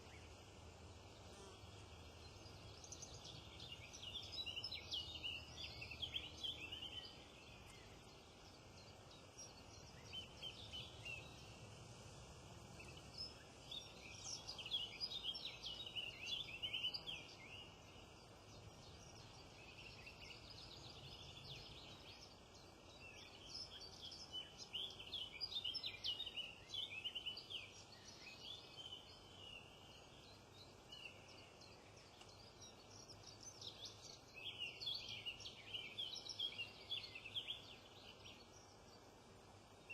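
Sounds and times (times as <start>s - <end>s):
faint outdoor hiss: 0.0s - 39.9s
small birds chirping: 0.0s - 39.9s.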